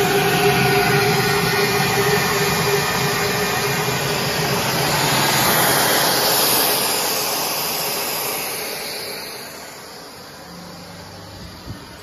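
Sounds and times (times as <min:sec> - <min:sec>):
faint hum: 0:00.0 - 0:12.0
mechanical rushing noise: 0:00.0 - 0:12.0.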